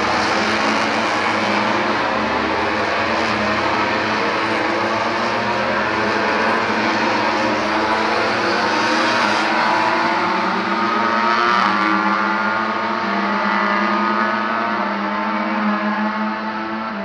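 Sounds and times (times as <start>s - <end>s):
racing motorcycles passing at high revs: 0.0s - 17.0s.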